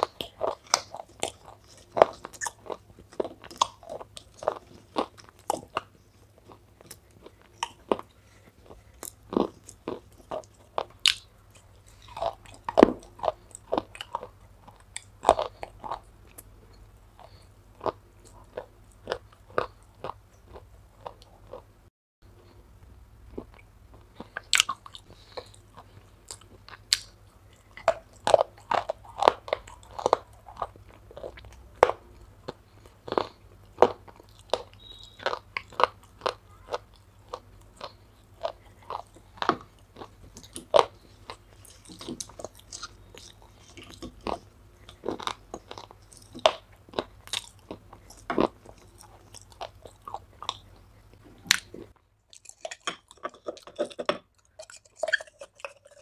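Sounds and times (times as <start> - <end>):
chewing crunches: 0.0 - 21.7, 23.3 - 56.0.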